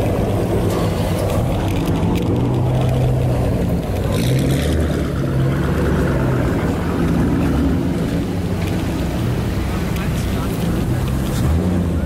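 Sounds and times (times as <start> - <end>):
car engines running low: 0.0 - 12.0.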